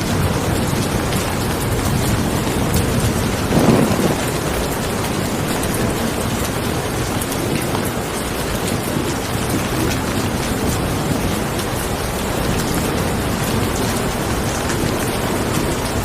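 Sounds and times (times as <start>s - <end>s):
rain falling: 0.0s - 16.0s
thunder rumble: 0.0s - 16.0s.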